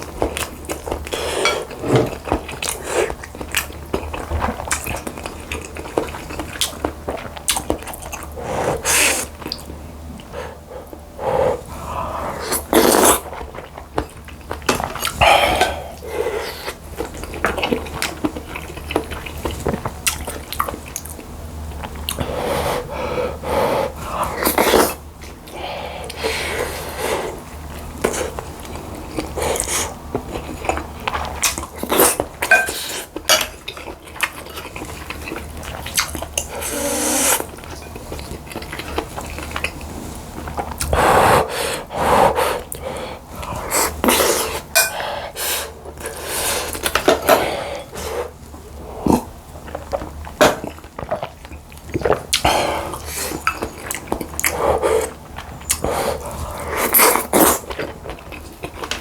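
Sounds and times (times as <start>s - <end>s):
chewing food: 0.0s - 22.4s, 24.0s - 59.0s.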